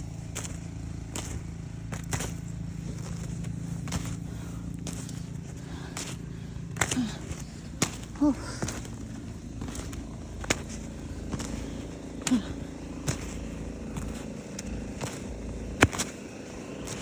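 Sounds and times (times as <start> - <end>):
snow shovel scraping: 0.0 - 17.0.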